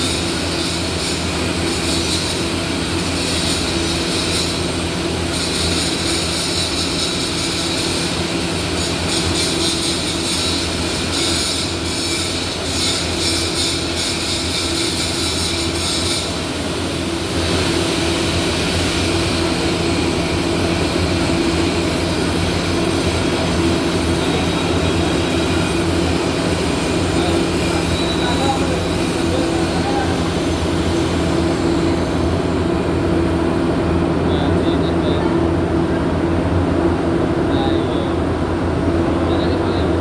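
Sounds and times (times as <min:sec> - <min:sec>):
welding crackling hiss: 0:00.0 - 0:32.2.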